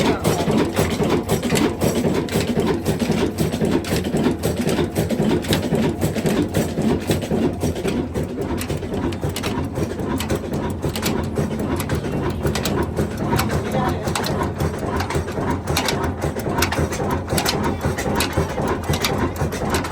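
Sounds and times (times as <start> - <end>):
diesel engine clattering: 0.0 - 19.9.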